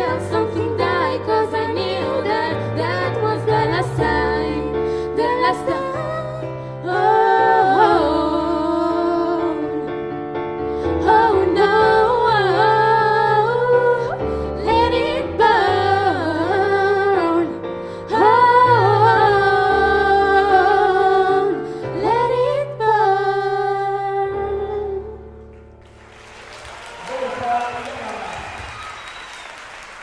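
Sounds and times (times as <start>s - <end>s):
two voices singing pop ballad: 0.0s - 10.0s, 10.8s - 25.2s.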